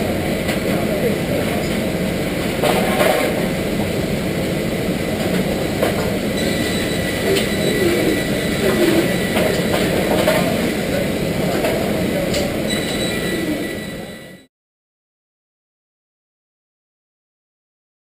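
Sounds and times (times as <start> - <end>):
machinery din with whine: 0.0 - 14.5.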